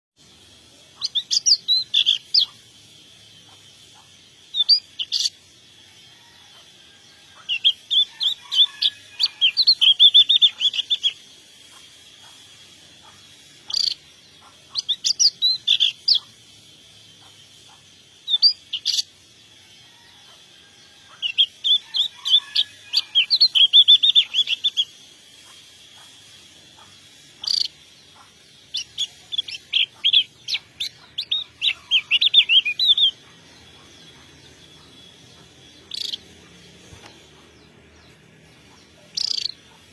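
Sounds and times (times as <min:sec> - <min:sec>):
songbird chirping and trilling: 0:00.2 - 0:39.9.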